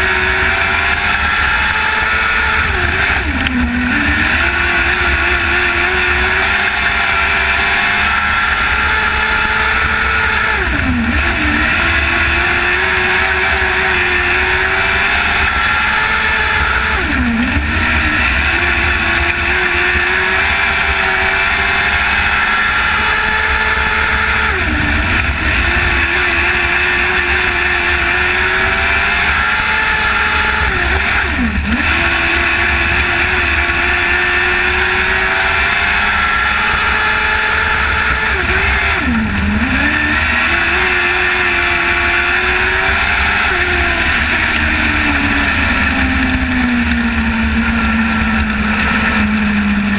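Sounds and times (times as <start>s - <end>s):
race car engines at full throttle: 0.0s - 49.9s.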